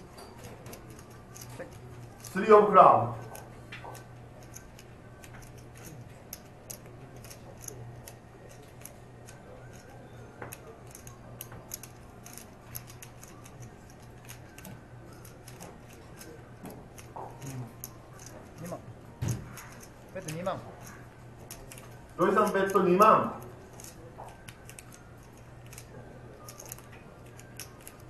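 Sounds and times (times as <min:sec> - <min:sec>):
poker chips clicking: 0:00.0 - 0:09.9, 0:10.6 - 0:18.8, 0:19.5 - 0:28.0
low steady hum: 0:00.0 - 0:28.0.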